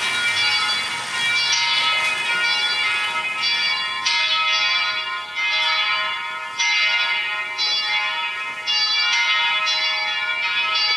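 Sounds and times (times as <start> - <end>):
church bells ringing: 0.0 - 10.9.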